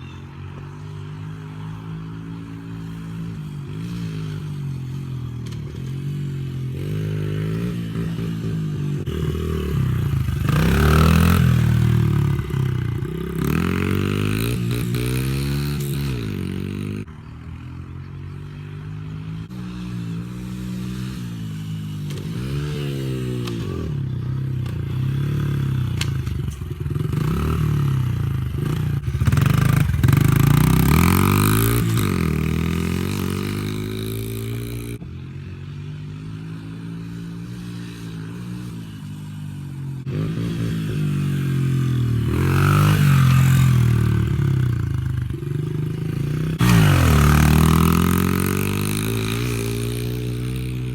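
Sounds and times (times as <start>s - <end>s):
dirt bike engine revving: 0.7s - 50.9s.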